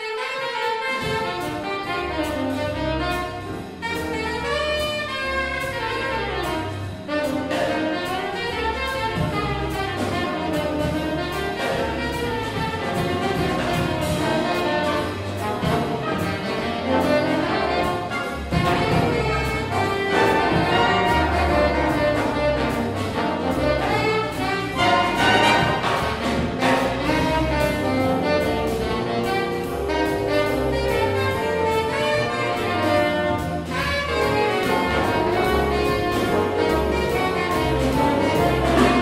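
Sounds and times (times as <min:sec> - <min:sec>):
jazz big band with orchestra: 0:00.0 - 0:39.0.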